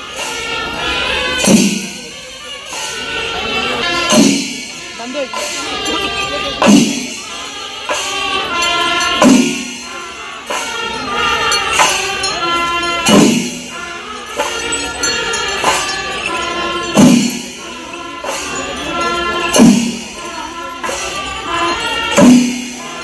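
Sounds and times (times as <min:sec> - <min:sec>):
clashing hand cymbals: 0:00.0 - 0:23.0
massed drums playing: 0:04.0 - 0:23.0.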